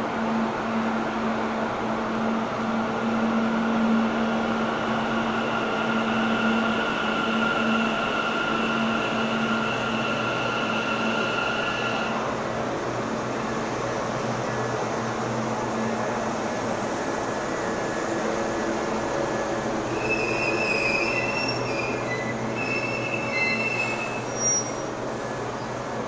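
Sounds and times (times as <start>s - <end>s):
train machine hum: 0.0s - 26.0s.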